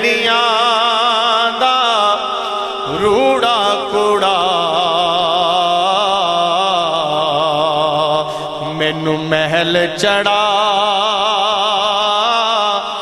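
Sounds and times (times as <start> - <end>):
man singing with vibrato: 0.0 - 13.0
steady drone: 0.0 - 13.0.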